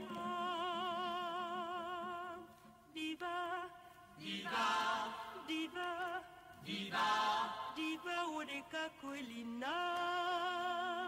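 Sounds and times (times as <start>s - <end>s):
person singing with wide vibrato: 0.0s - 11.0s.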